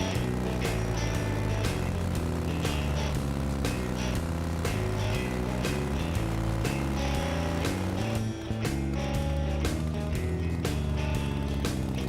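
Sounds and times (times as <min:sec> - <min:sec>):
held bass notes: 0:00.0 - 0:12.0.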